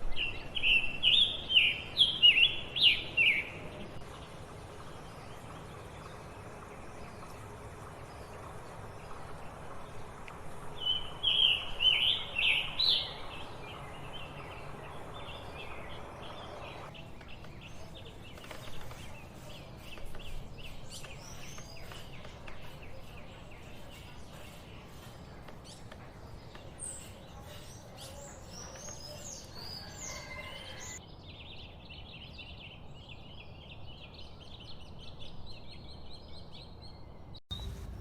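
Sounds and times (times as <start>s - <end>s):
bird singing: 0.0s - 38.0s.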